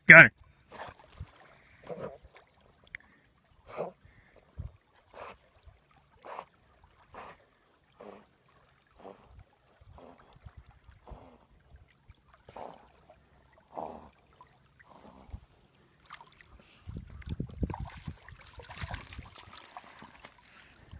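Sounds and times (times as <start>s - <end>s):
water splashing from swimming dog: 0.7s - 20.9s.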